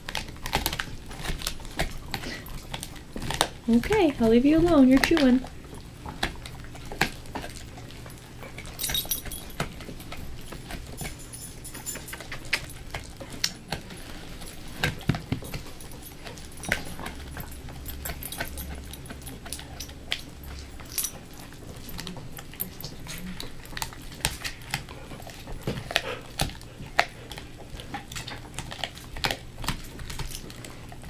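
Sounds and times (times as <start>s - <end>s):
teeth clicking on chew: 0.0s - 11.3s, 11.9s - 31.0s
dog gnawing a chew: 0.0s - 31.0s.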